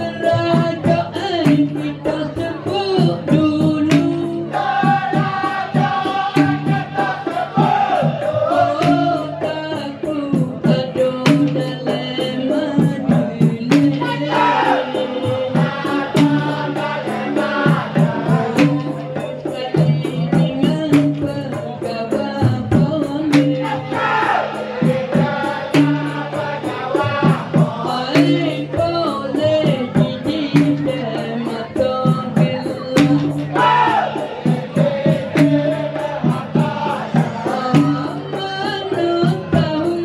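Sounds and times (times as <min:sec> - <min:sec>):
men singing together: 0:00.0 - 0:20.9, 0:21.5 - 0:40.0
hand percussion beat: 0:00.0 - 0:40.0.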